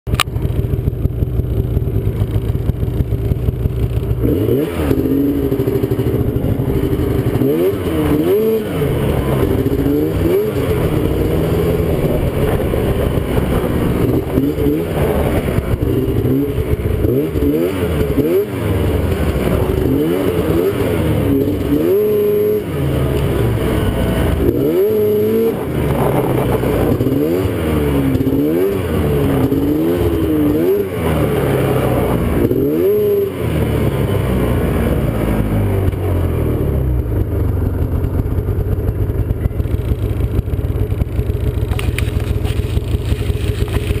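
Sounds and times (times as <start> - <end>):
snowmobile engine revving: 0.4 - 44.0.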